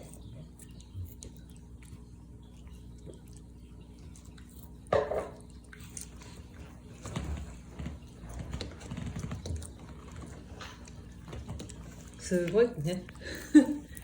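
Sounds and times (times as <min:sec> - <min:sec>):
dog chewing: 0:00.0 - 0:14.0.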